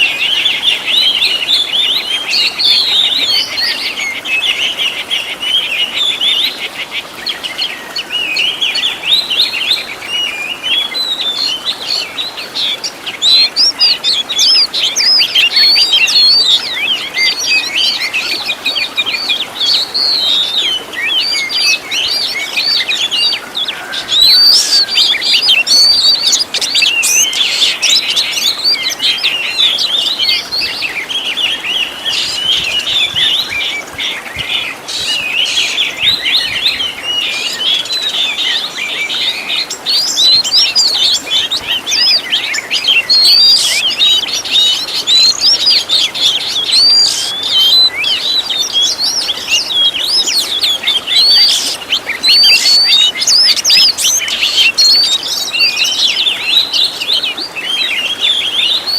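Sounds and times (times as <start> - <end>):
bird whistles and chirps: 7.2 - 58.9.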